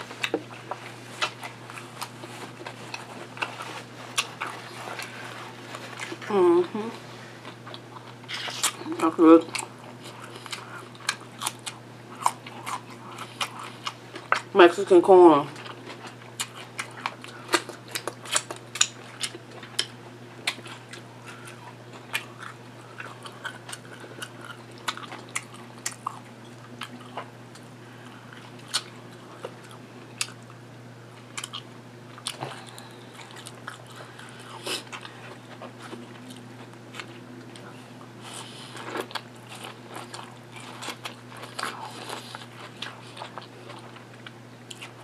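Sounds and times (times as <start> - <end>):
close chewing and biting: 0.0 - 6.3, 7.4 - 14.5, 15.5 - 30.6, 31.2 - 45.0
low steady hum: 0.0 - 45.0.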